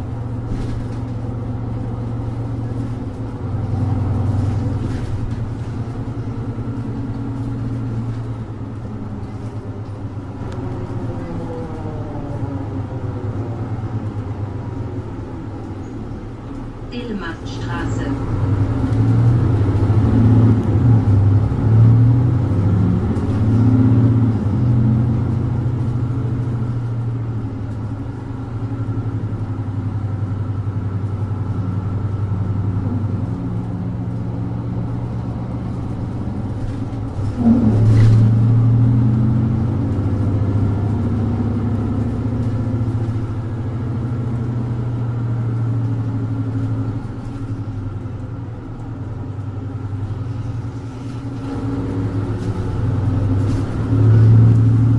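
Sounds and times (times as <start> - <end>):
bus diesel engine: 0.0 - 54.9.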